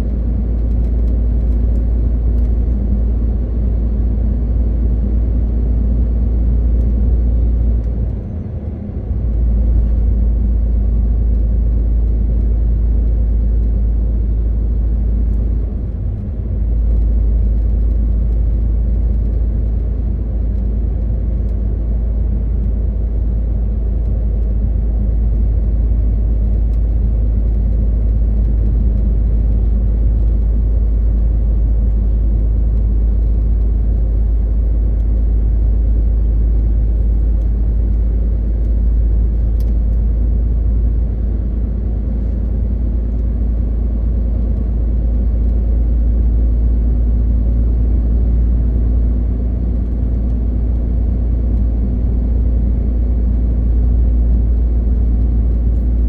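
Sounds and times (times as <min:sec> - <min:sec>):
road rumble: 0:00.0 - 0:56.0
truck diesel engine drone: 0:00.0 - 0:56.0.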